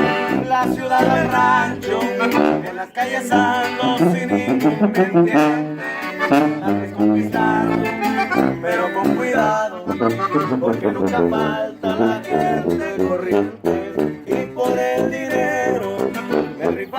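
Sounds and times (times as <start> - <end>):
accordion lead: 0.0 - 16.9
strummed guitar: 0.0 - 16.9
tuba bass: 0.0 - 16.9.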